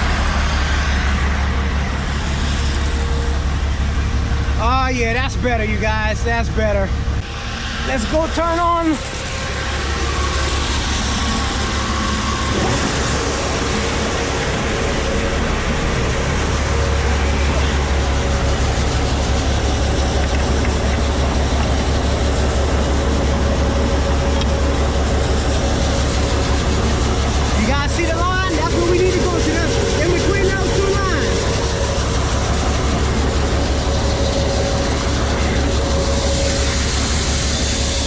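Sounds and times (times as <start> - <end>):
grain auger machinery droning: 0.0 - 38.0.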